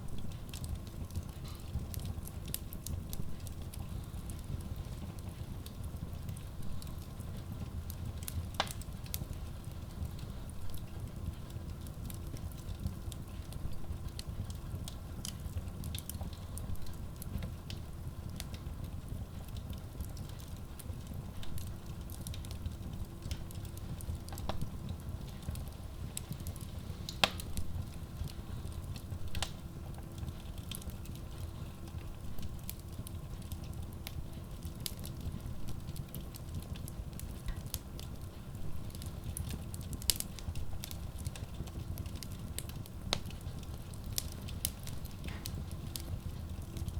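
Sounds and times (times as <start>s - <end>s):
wood fire rumbling and crackling: 0.0s - 46.9s.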